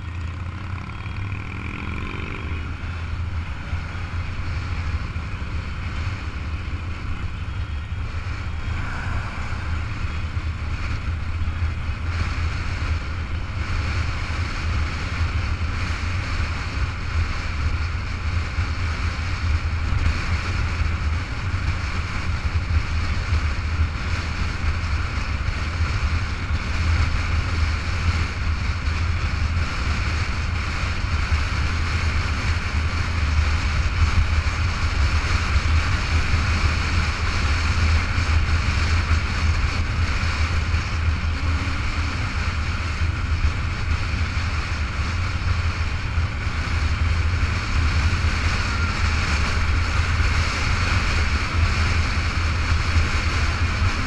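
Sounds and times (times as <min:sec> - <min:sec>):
motorcycle engine drone: 0:00.0 - 0:54.0
wind rushing on microphone: 0:00.0 - 0:54.0.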